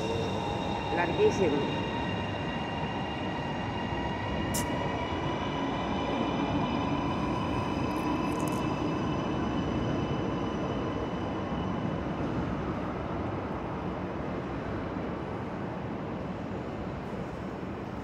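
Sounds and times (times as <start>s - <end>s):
electric train whine: 0.0s - 18.0s
railway station rumble: 0.0s - 18.0s.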